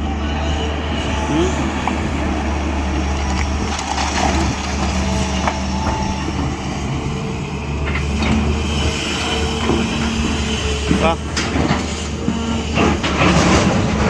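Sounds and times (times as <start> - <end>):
diesel excavator engine running: 0.0 - 14.0.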